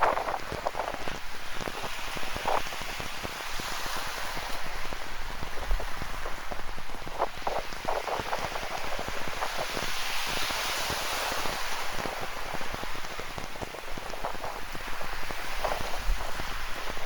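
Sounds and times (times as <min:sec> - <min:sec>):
ocean surf hiss: 0:00.0 - 0:17.0
rain patter: 0:00.0 - 0:17.0.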